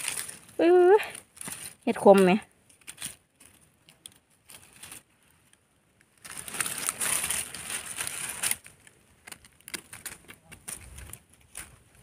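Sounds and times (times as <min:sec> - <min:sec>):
dry leaves crunching under hand: 0:00.0 - 0:05.4, 0:06.1 - 0:12.0.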